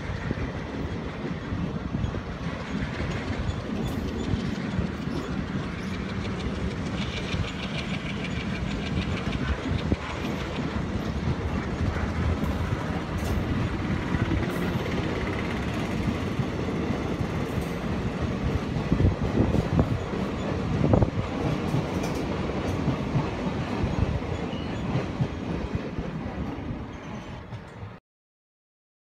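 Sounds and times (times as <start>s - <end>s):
train wheels clattering over rail joints: 0.0s - 27.9s.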